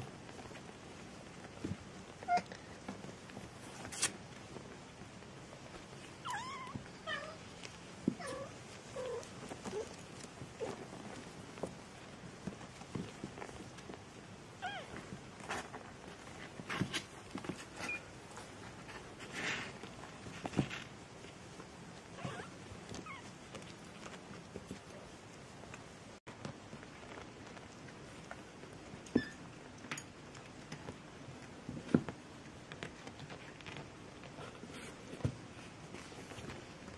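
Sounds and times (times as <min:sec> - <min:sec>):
pattering and scratching on a surface: 0:00.0 - 0:36.9.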